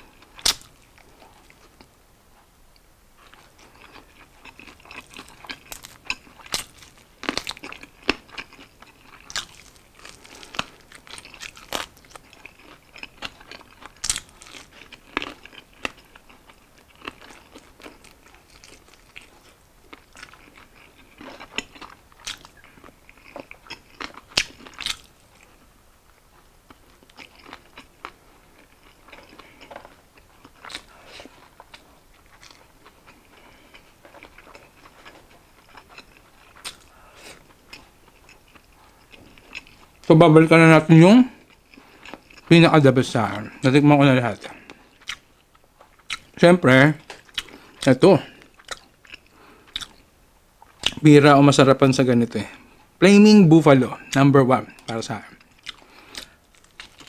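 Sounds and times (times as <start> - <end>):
crunchy chewing: 0.0 - 2.5, 3.2 - 40.1, 41.3 - 46.4, 47.0 - 51.0, 54.1 - 57.0.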